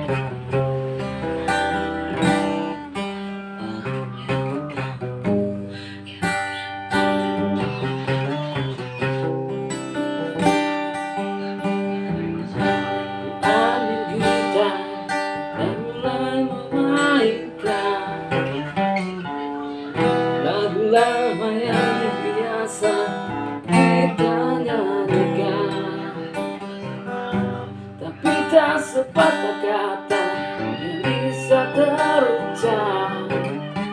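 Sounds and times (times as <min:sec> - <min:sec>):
acoustic guitar strumming: 0:00.0 - 0:33.9.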